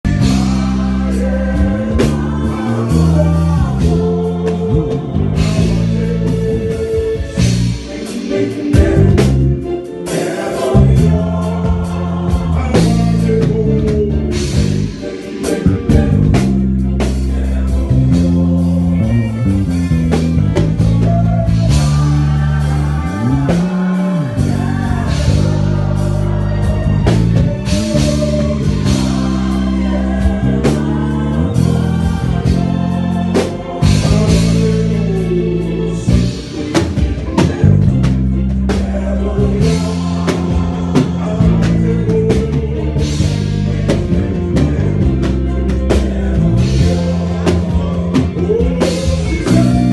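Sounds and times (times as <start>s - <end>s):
person singing: 0.0s - 16.3s, 17.3s - 49.9s
bass line: 0.0s - 49.9s
drum kit beat: 0.0s - 49.9s
guitar: 0.0s - 49.9s.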